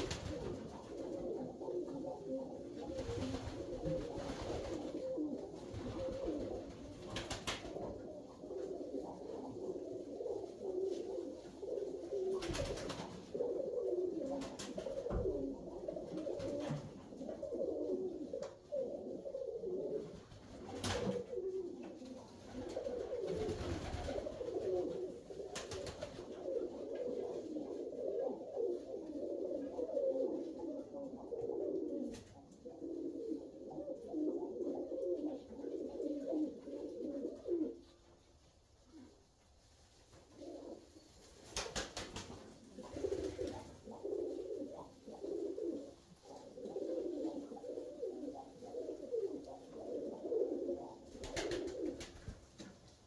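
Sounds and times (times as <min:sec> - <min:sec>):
pigeons cooing: 0:00.0 - 0:38.2, 0:40.3 - 0:52.7.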